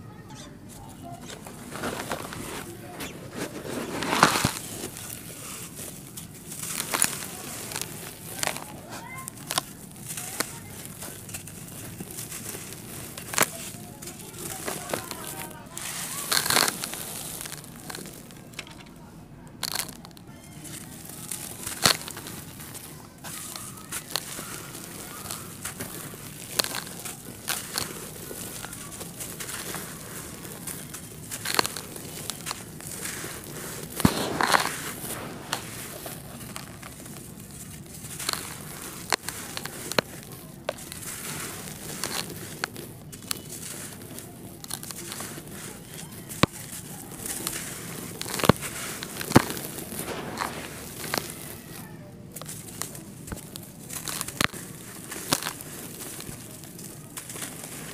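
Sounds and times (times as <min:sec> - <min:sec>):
dry dirt crumbling in hands: 0:00.0 - 0:57.9
grit and dust falling: 0:00.8 - 0:57.9.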